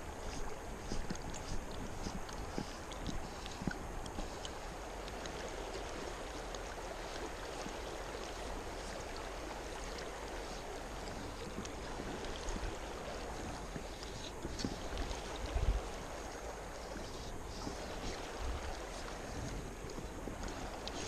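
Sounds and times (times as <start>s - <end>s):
faint splashes: 0.0s - 21.0s
stream water rushing: 0.0s - 21.0s.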